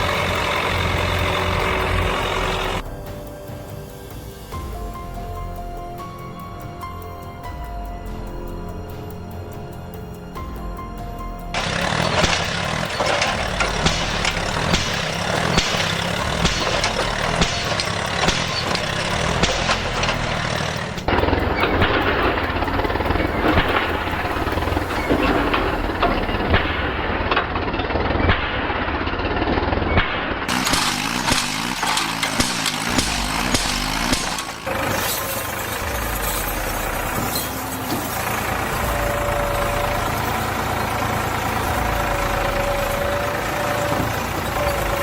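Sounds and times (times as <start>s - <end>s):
tractor engines clattering rumble: 0.0s - 45.0s.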